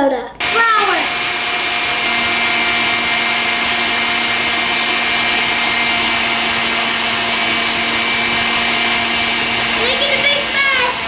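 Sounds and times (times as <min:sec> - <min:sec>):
electric mixer motor whine: 0:00.4 - 0:11.0.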